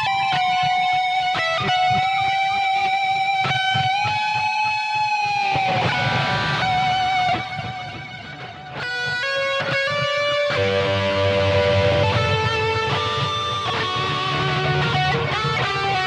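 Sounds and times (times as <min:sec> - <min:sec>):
electric guitar with delay: 0:00.0 - 0:16.0.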